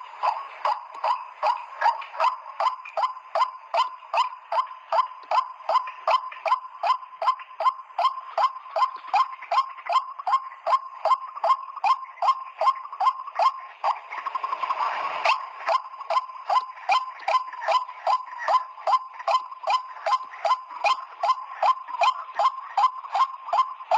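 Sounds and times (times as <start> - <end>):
waterhen calls: 0.0 - 23.9.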